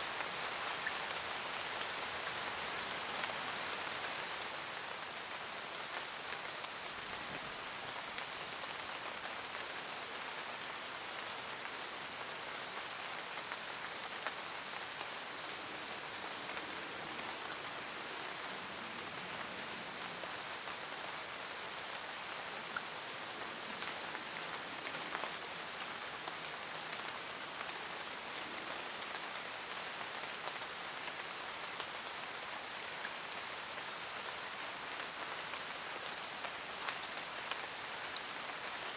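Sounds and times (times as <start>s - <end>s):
rain pattering on leaves: 0.0s - 38.9s.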